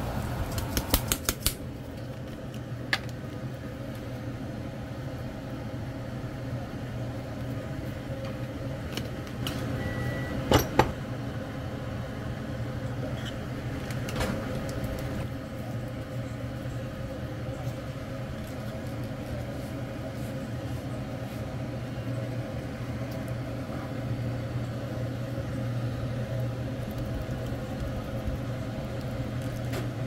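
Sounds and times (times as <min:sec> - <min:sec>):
fan humming: 0:00.0 - 0:30.0.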